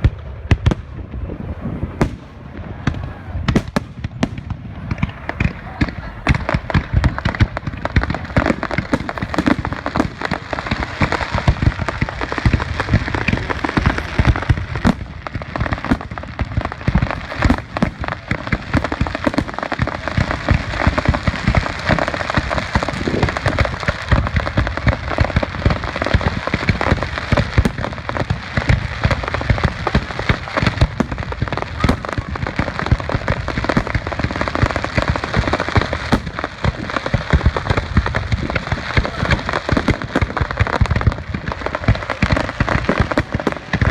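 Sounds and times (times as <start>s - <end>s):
fireworks crackling and banging: 0.0s - 43.9s.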